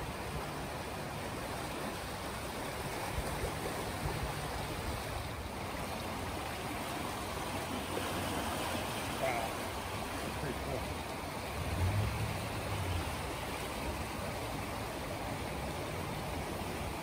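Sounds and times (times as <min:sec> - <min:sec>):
river rushing and swirling: 0:00.0 - 0:17.0.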